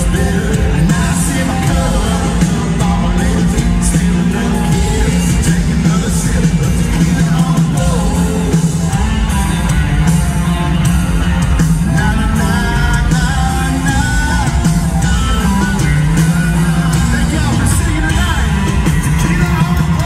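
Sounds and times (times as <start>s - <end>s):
drums: 0.0s - 20.0s
electric guitar: 0.0s - 20.0s
keyboards: 0.0s - 20.0s
lead singer singing: 0.0s - 20.0s.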